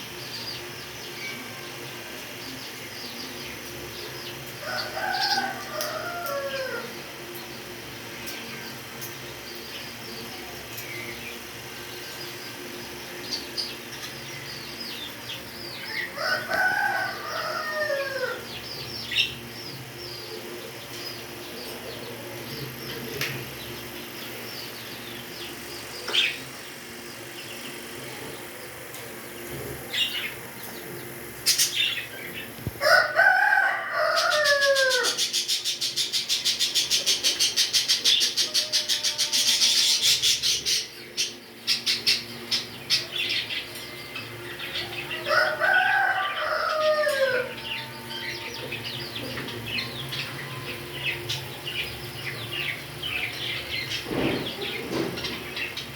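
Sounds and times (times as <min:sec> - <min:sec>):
long falling bird calls: 0:00.0 - 0:55.9.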